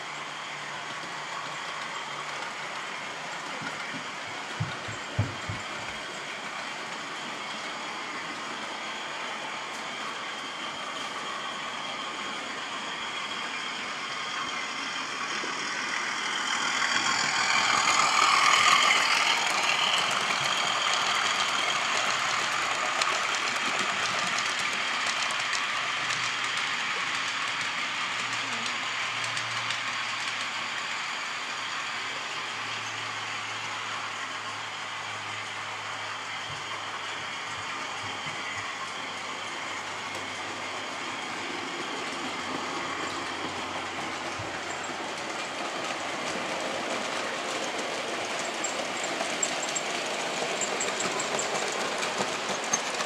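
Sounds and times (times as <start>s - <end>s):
model train motor hum: 0.0s - 53.0s
model train wheels on track: 0.0s - 53.0s.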